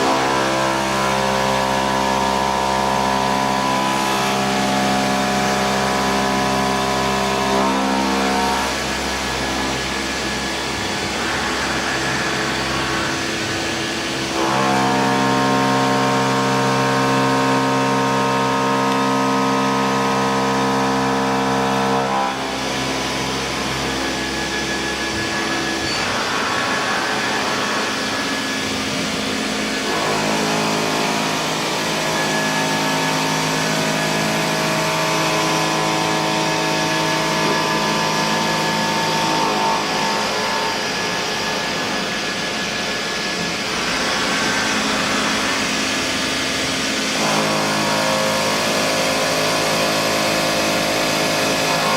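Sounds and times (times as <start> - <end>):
machining center mechanical whine: 0.0 - 51.9.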